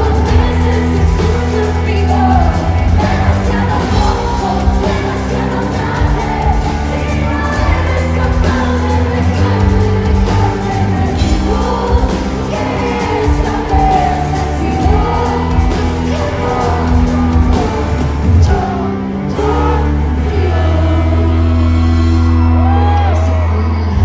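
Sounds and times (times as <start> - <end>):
woman singing: 0.0 - 21.8, 22.6 - 24.0
live pop band playing: 0.0 - 24.0.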